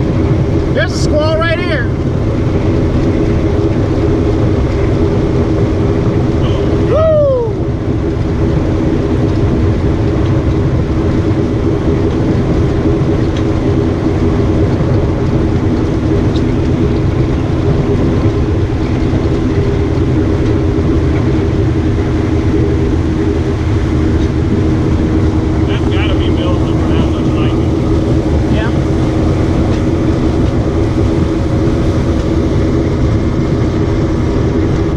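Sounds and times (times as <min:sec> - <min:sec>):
boat motor humming: 0:00.0 - 0:34.9
water rushing past hull: 0:00.0 - 0:34.9
wind rushing: 0:00.0 - 0:34.9.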